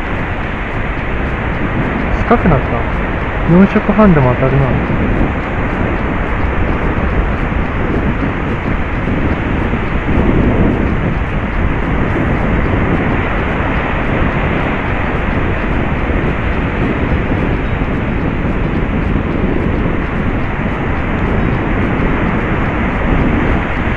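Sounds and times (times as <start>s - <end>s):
waves breaking: 0.0s - 23.9s
wind buffeting microphone: 0.0s - 23.9s.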